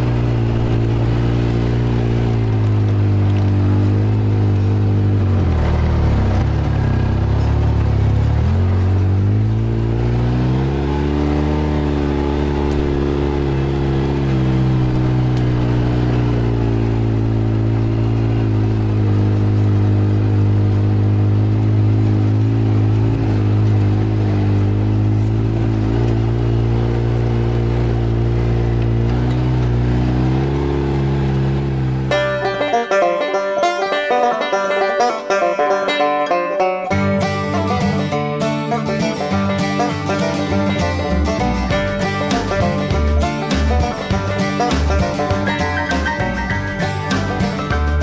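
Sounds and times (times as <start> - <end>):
off-road vehicle engine running: 0.0 - 48.0.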